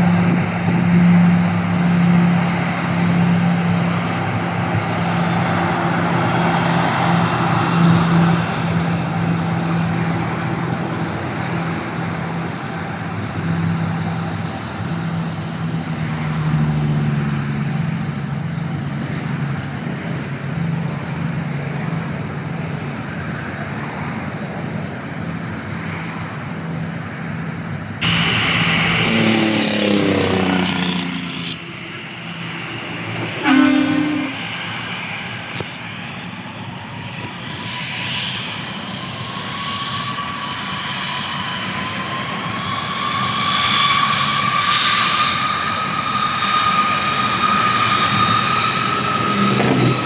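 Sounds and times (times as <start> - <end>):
aircraft roar falling in pitch: 0.0 - 23.6, 28.0 - 50.0
aircraft engine drone: 0.0 - 50.0
loud rushing noise: 0.0 - 50.0.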